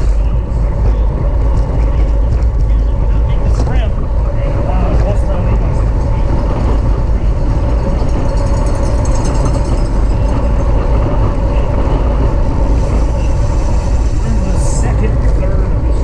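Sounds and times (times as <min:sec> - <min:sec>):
road rumble: 0:00.0 - 0:16.0
wind rush: 0:00.0 - 0:16.0.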